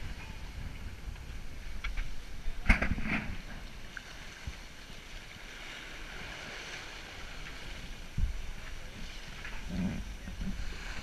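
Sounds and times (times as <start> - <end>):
water rushing along hull: 0.0 - 11.0
wave slapping hull: 0.0 - 11.0
wind rumbling on microphone: 0.0 - 11.0.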